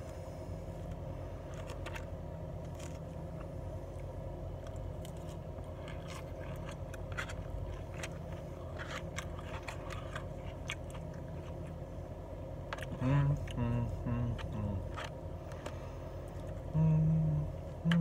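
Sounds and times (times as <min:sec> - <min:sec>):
steady low hum: 0:00.0 - 0:18.0
crunchy salad chewing: 0:00.8 - 0:16.8.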